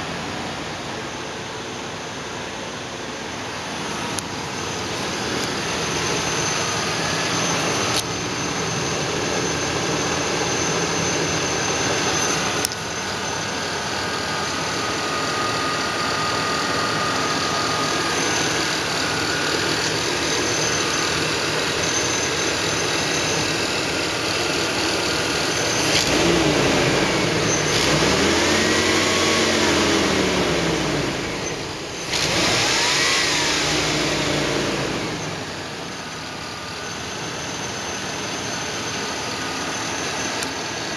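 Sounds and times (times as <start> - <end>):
van engine idling and revving: 0.0 - 40.9.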